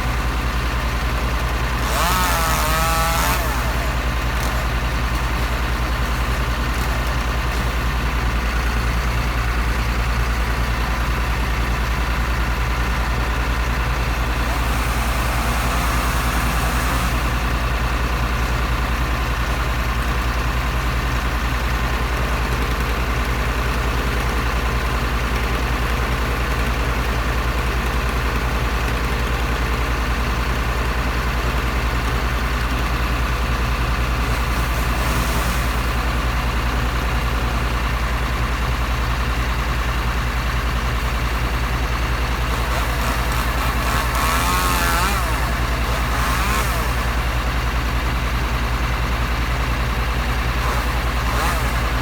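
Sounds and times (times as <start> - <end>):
heavy engine idling: 0.0 - 52.0.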